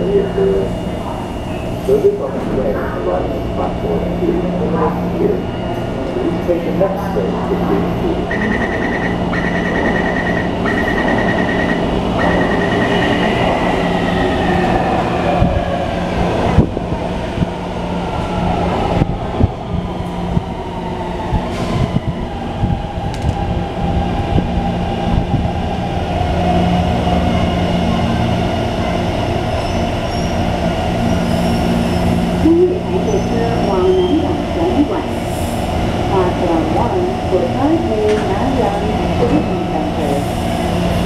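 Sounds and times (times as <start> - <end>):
train running: 0.0 - 41.0.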